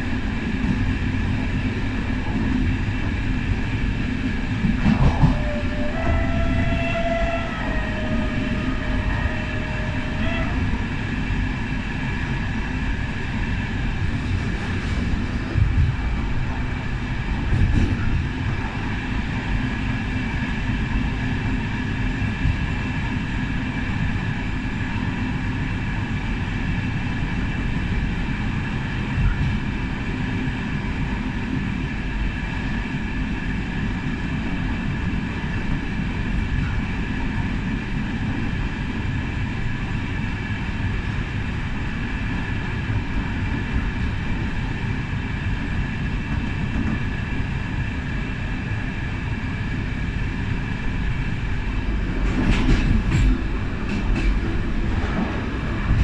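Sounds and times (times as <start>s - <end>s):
train carriage rolling rumble: 0.0s - 56.0s.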